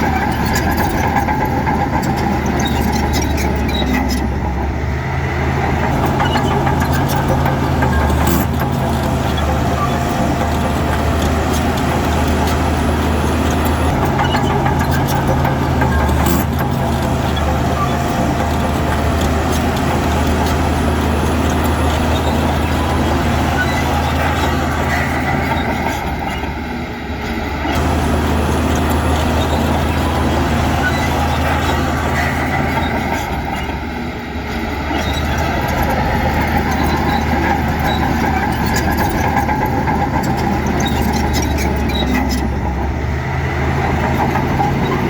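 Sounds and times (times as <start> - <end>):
heavy diesel machinery running: 0.0 - 45.0.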